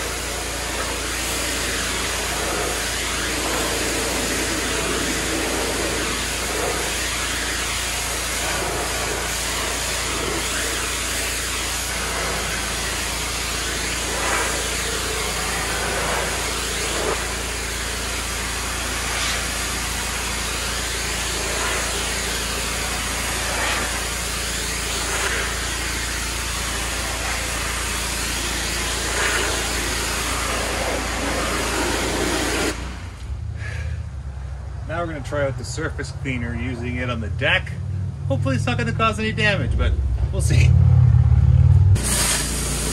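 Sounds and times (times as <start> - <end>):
pressure washer spraying wood: 0.0 - 33.8, 42.0 - 42.9.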